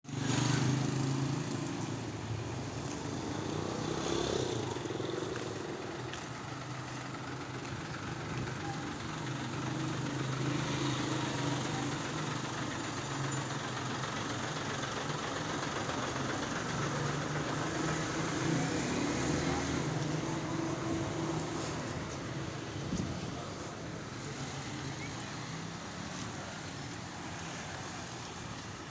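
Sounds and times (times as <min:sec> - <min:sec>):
outdoor background noise: 0:00.0 - 0:28.9
truck engine running: 0:00.1 - 0:28.9.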